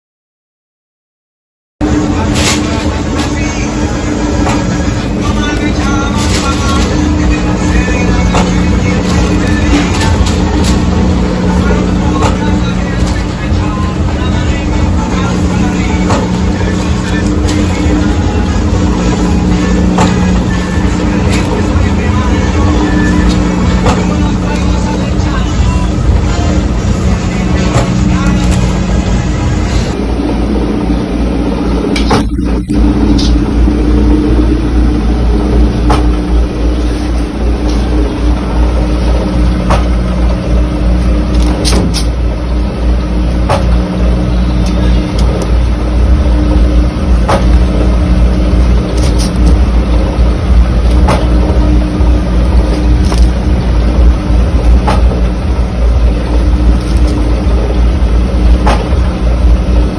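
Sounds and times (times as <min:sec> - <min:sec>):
low mechanical hum: 0:01.8 - 0:59.9.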